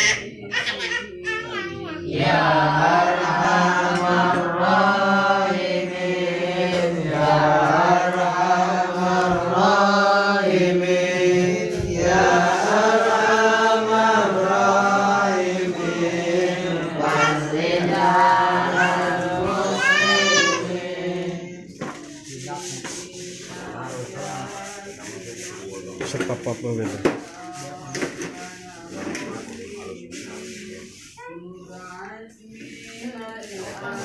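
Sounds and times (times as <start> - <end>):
boys chanting verse in unison: 1.4 - 34.0.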